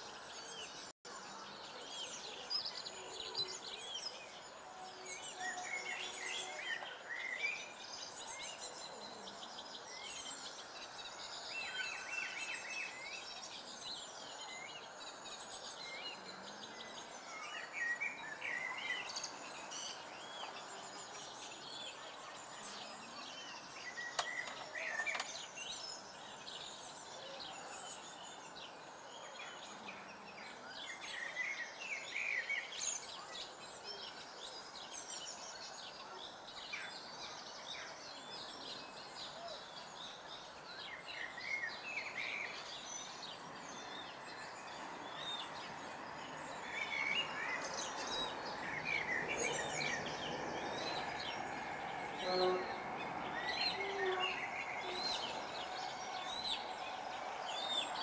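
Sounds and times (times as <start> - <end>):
songbirds chirping and singing: 0.0 - 58.0.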